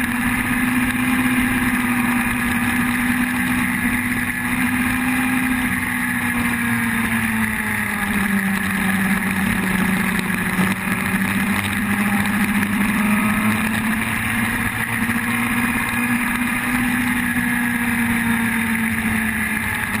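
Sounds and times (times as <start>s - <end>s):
motorcycle engine running: 0.0s - 20.0s
steady rushing noise: 0.0s - 20.0s.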